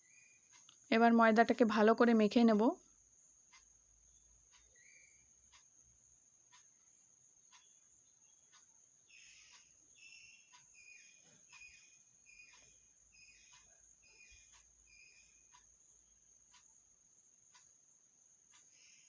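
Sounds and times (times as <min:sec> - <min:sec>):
faint ticks: 0:00.3 - 0:00.9, 0:02.6 - 0:19.0.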